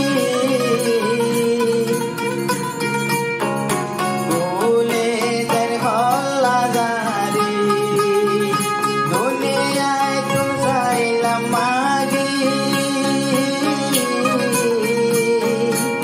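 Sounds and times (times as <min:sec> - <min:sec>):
man singing: 0:00.0 - 0:02.6, 0:04.2 - 0:16.0
plucked string accompaniment: 0:00.0 - 0:16.0.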